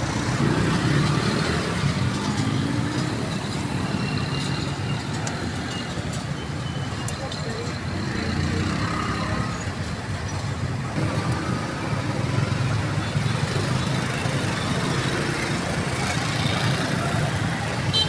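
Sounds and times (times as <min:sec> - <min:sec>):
passing vehicles rumbling: 0:00.0 - 0:18.0.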